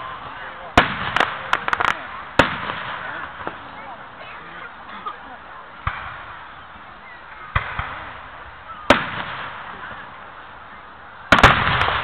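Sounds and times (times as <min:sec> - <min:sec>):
fireworks bangs: 0:00.0 - 0:04.0, 0:05.8 - 0:12.0.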